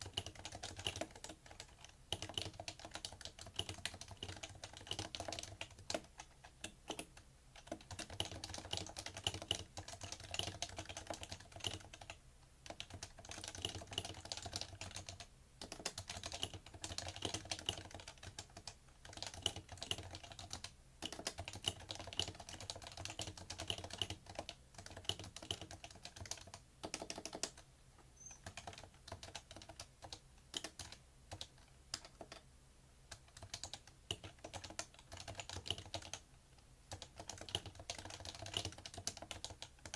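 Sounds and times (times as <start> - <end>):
keyboard typing: 0.0 - 32.5, 33.1 - 36.2, 36.9 - 39.9.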